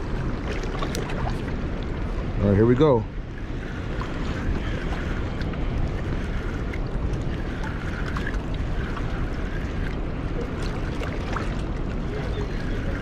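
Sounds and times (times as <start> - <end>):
river water rushing: 0.0 - 13.0
wind rumble on microphone: 0.0 - 13.0.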